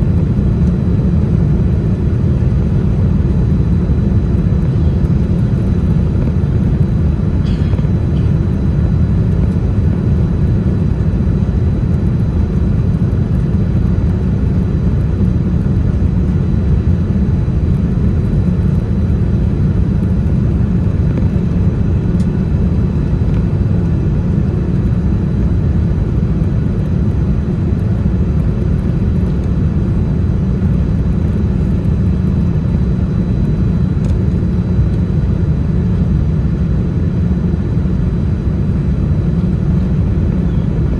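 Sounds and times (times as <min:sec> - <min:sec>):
airliner engine rumble: 0:00.0 - 0:40.9.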